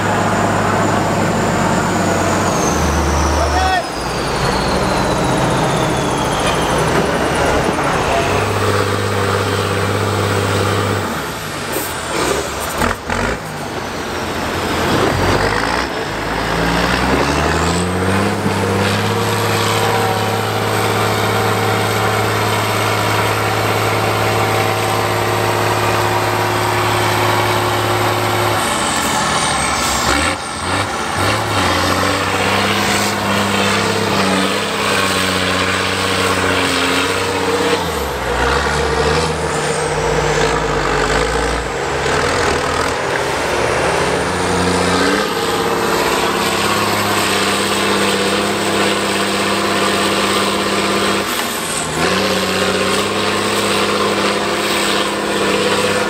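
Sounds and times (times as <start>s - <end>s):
truck engine revving hard: 0.0s - 56.0s.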